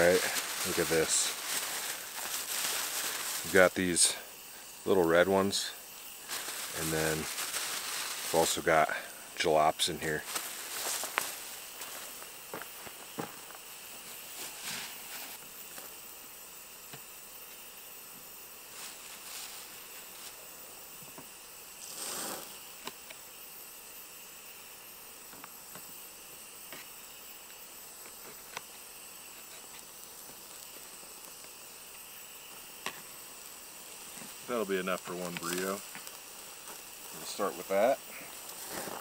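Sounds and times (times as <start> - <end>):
food sizzling on a stove: 0.0 - 39.0.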